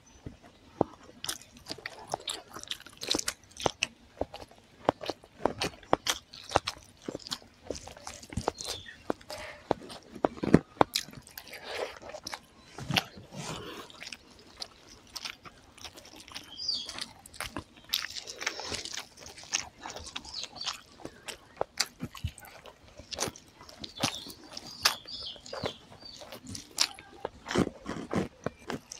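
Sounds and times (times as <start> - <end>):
close-up chewing: 0.1 - 28.9
fingers squeezing sticky rice: 0.8 - 28.9.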